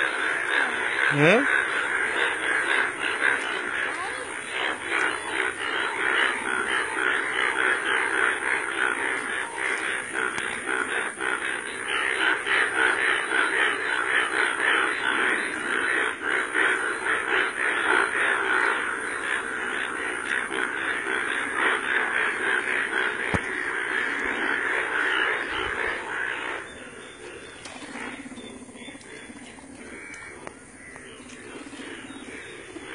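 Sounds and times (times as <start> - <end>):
chorus of croaking frogs: 0.0 - 32.9.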